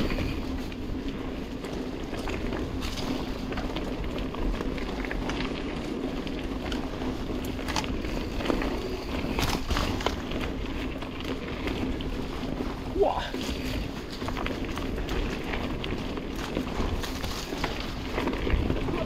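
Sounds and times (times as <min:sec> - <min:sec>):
bike clicks and rattles: 0:00.0 - 0:19.0
rush of tyres and wind: 0:00.0 - 0:19.0.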